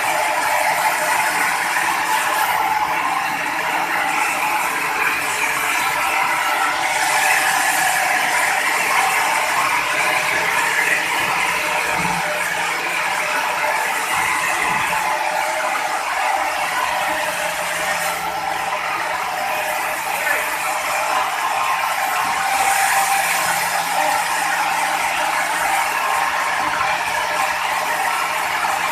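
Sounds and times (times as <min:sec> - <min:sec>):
sawmill machinery rattling and whirring: 0:00.0 - 0:28.9.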